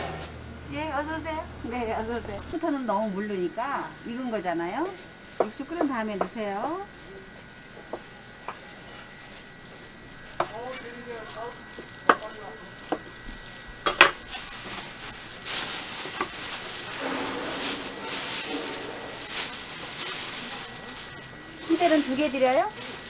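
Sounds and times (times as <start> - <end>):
plastic bag crinkling: 1.7 - 23.0.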